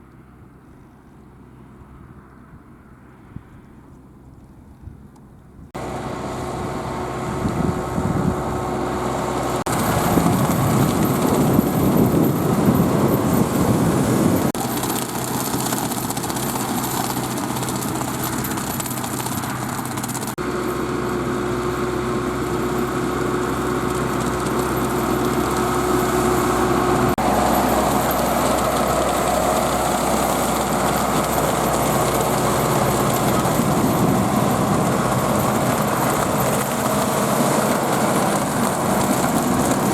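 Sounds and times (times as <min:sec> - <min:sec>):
tractor diesel engine running: 0:05.8 - 0:39.9.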